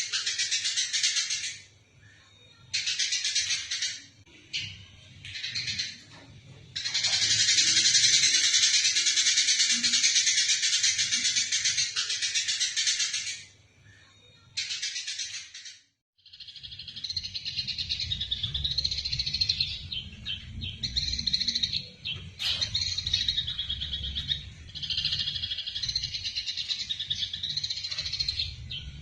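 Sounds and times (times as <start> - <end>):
sparrows chattering: 0.0 - 29.0.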